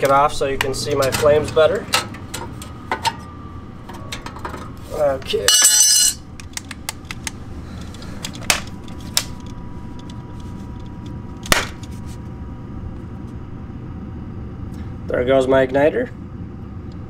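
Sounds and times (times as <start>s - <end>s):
furnace inducer motor whine: 0.0s - 17.0s.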